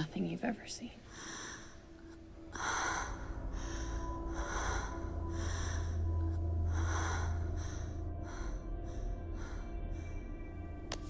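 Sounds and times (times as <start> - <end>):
heavy rasping breaths: 1.1 - 10.8
low droning horror score: 1.2 - 11.0.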